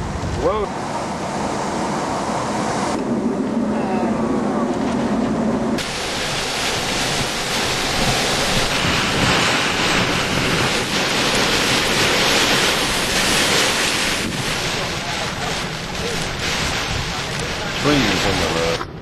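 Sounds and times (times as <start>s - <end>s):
hurricane wind and rain rushing: 0.0s - 19.0s
wind buffeting microphone: 0.0s - 19.0s.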